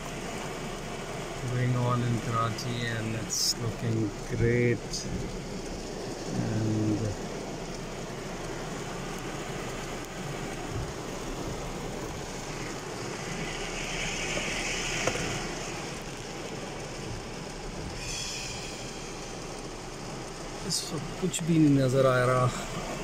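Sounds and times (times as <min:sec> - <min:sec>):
heavy rain on car roof: 0:00.0 - 0:23.0.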